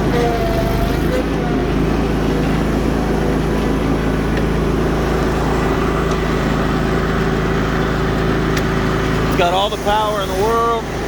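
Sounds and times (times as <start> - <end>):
lawn mower engine running: 0.0 - 11.0
mower blades spinning: 0.0 - 11.0.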